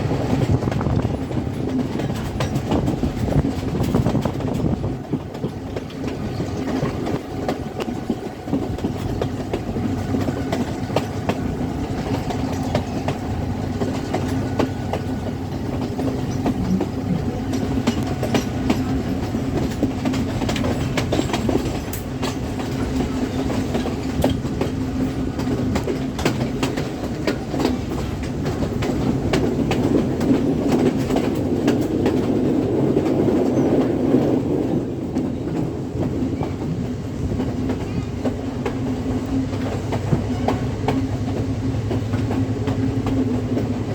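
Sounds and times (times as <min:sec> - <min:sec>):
train carriages rumbling: 0:00.0 - 0:43.9
wheels clacking over rail joints: 0:00.0 - 0:43.9.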